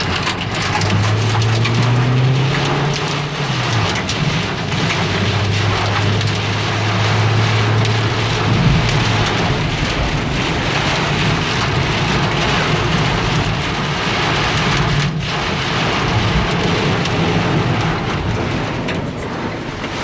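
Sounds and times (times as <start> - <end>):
heavy rain on car roof: 0.0 - 20.0
low rumble: 0.0 - 20.0.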